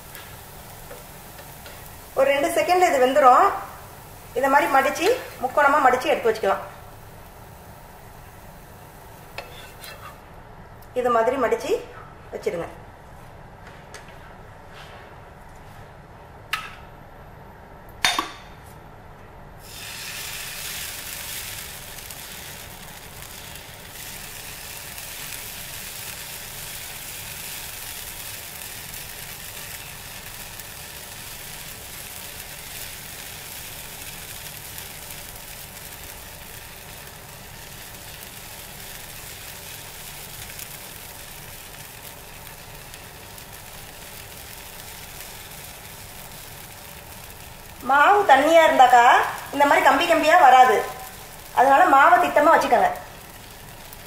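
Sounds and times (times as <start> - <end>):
batter sizzling on griddle: 0.0 - 10.3, 19.6 - 54.0.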